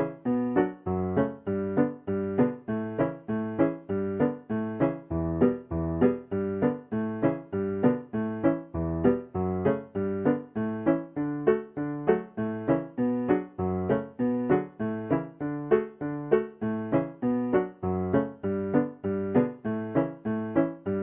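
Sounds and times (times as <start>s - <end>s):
electric piano chords: 0.0s - 21.0s.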